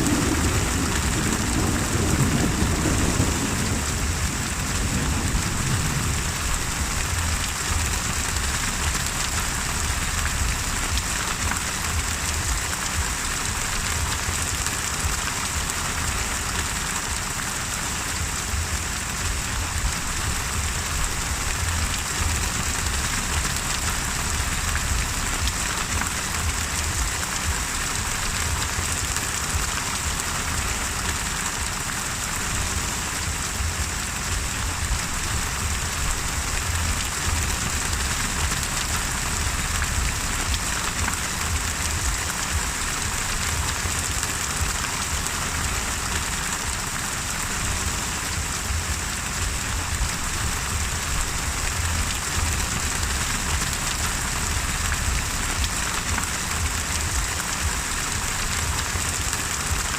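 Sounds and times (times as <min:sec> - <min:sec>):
deep rumble: 0:00.0 - 0:59.9
heavy rain falling: 0:00.0 - 0:59.9.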